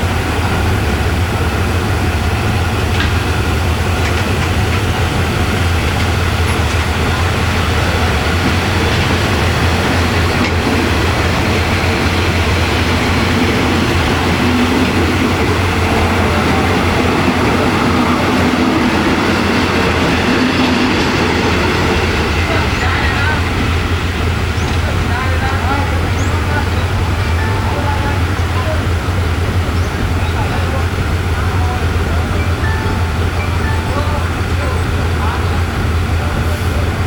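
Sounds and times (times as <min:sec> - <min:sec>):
diesel locomotive droning: 0:00.0 - 0:37.0.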